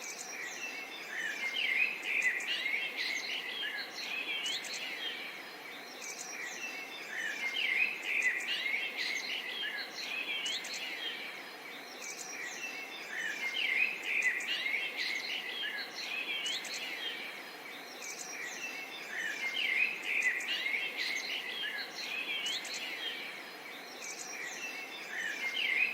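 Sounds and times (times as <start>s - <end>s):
faint background hiss: 0.0s - 25.9s
songbirds chirping and singing: 0.0s - 25.9s.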